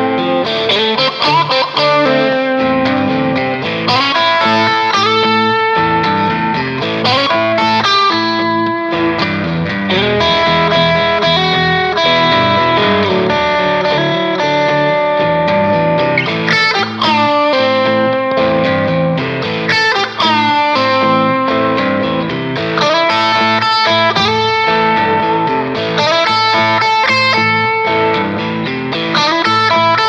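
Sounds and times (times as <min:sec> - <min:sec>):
electric guitar music: 0:00.0 - 0:30.0.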